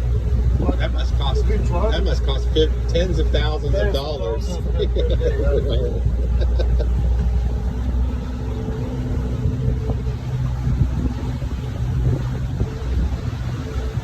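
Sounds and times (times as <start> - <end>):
boat motor humming: 0.0 - 14.0
rough rushing water noise: 0.0 - 14.0.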